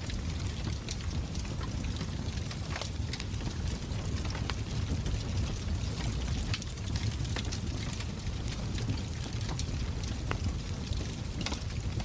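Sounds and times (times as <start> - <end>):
low rumble of burning logs: 0.0 - 12.0
sharp pops from fire: 0.0 - 12.0
wood fire crackling: 0.0 - 12.0.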